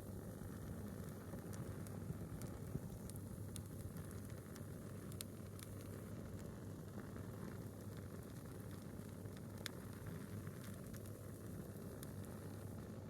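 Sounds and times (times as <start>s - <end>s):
wood fire burning: 0.1s - 13.0s.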